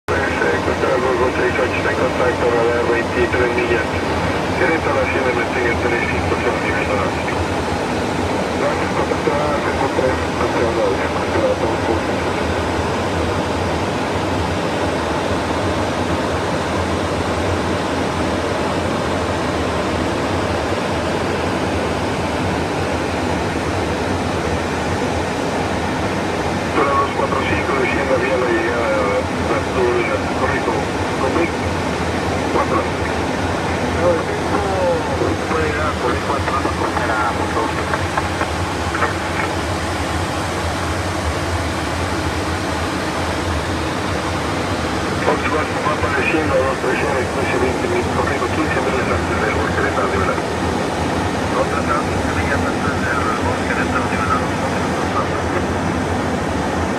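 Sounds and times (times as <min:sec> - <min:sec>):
aircraft engine drone: 0:00.0 - 0:56.9
low steady hum: 0:00.1 - 0:56.9
rushing airflow in cockpit: 0:00.1 - 0:56.9.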